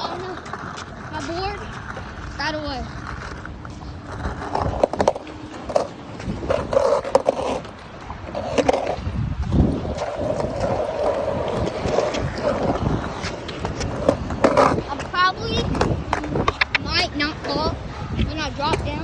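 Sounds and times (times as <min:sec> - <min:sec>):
skateboard clacking: 0:00.0 - 0:19.0
skateboard wheels rolling: 0:00.0 - 0:19.0
wind buffeting microphone: 0:00.0 - 0:19.0.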